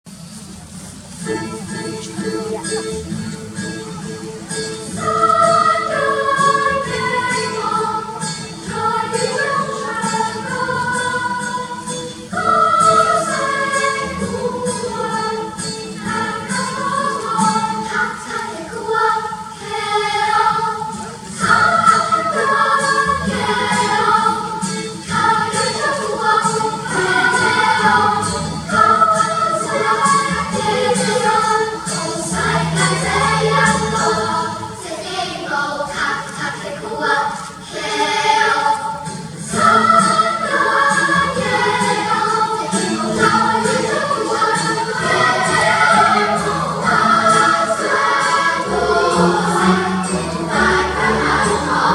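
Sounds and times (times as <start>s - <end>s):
children's choir singing: 0.1s - 51.9s.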